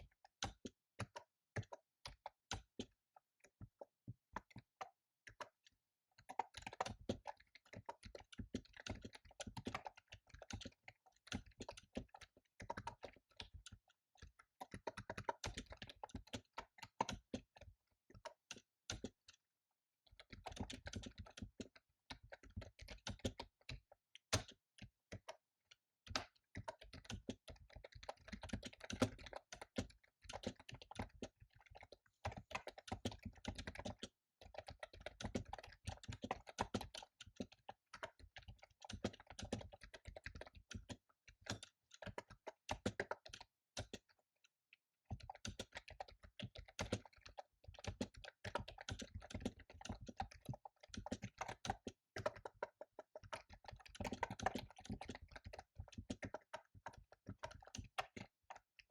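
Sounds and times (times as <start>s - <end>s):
typing on computer keyboard: 0.0s - 19.4s, 20.1s - 58.9s.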